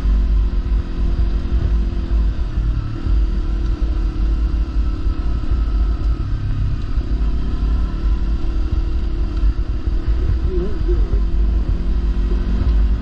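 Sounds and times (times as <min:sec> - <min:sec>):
heavy low rumble: 0:00.0 - 0:13.0
motorcycle engine cruising: 0:00.0 - 0:13.0.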